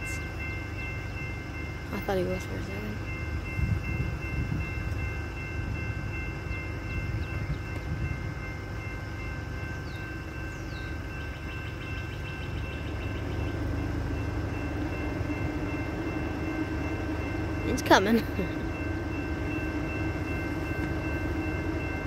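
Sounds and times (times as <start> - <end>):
crossing warning bell ringing: 0.0 - 22.0
train locomotive rumbling: 0.0 - 22.0.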